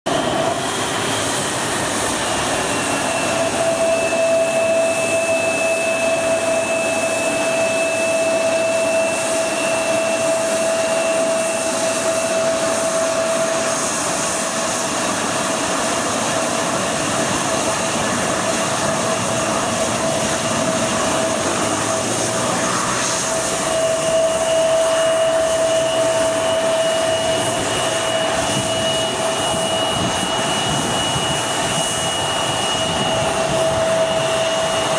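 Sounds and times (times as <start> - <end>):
high jet engine whine: 0.0 - 34.9
jet engines rushing: 0.1 - 34.9.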